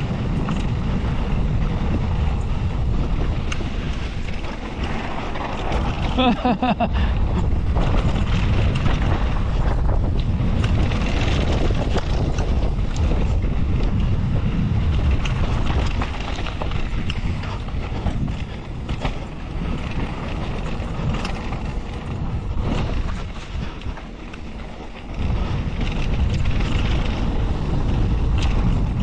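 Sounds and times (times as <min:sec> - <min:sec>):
bike clicks and rattles: 0:00.0 - 0:29.0
tyres rolling over dirt: 0:00.0 - 0:29.0
wind buffeting microphone: 0:00.0 - 0:29.0.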